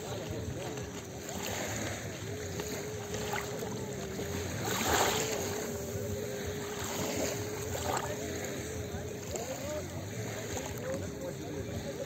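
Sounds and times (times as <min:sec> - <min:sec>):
faint steady hum: 0:00.0 - 0:12.0
small waves lapping on shore: 0:00.0 - 0:12.0.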